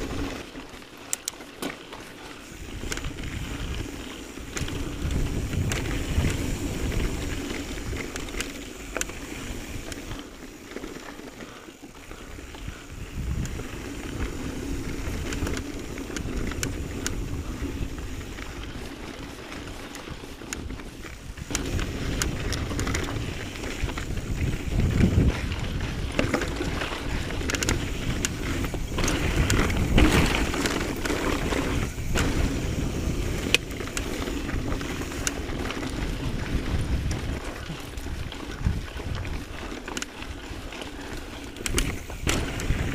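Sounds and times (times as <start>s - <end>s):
bike rattling and clicking: 0.0s - 42.9s
tyres rolling over stones: 0.0s - 42.9s
wind buffeting microphone: 2.4s - 10.2s, 12.1s - 42.9s.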